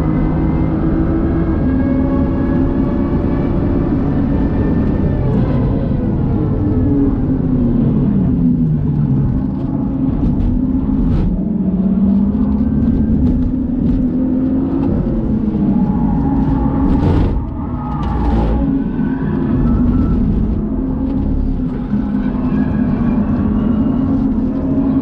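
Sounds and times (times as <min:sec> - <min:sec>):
car engine revving: 0:00.0 - 0:25.0
road and tyre noise: 0:00.0 - 0:25.0.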